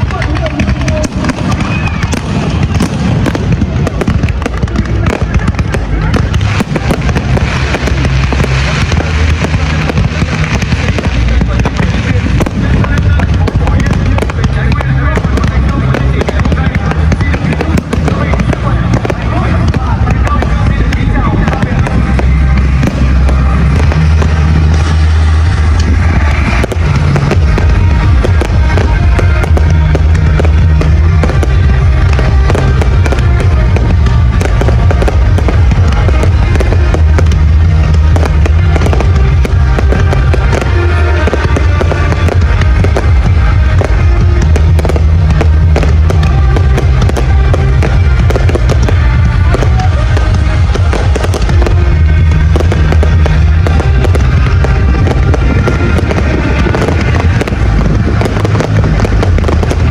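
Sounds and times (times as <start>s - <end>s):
fireworks bangs and crackles: 0.0s - 59.9s
loud music with heavy bass: 0.0s - 59.9s.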